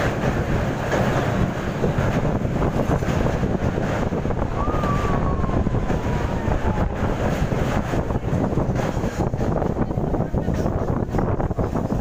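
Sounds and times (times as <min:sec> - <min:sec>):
train wheels rumbling on rails: 0:00.0 - 0:12.0
wind buffeting microphone: 0:00.0 - 0:12.0.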